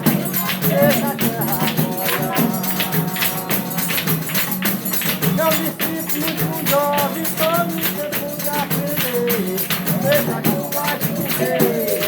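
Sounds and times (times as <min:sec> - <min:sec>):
jingling tambourine beat: 0:00.0 - 0:12.0
voices singing: 0:00.0 - 0:12.0.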